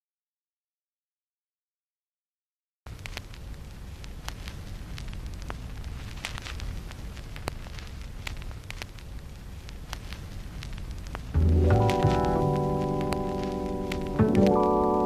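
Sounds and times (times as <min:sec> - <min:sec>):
crackling with sharp pops: 0:02.9 - 0:15.0.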